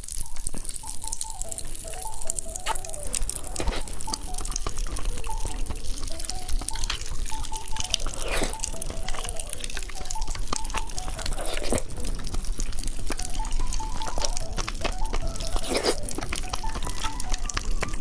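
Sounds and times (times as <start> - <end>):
popping candy crackling: 0.0 - 18.0.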